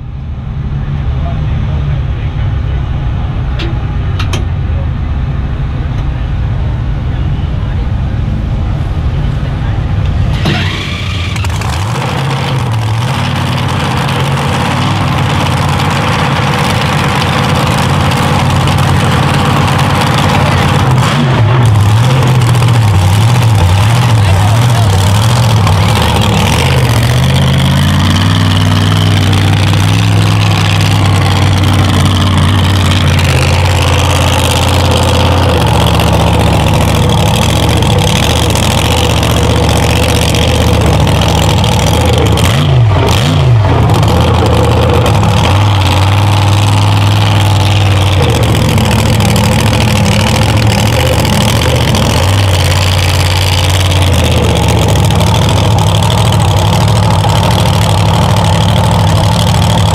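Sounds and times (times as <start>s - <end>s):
truck engine idling loudly: 0.0s - 59.9s.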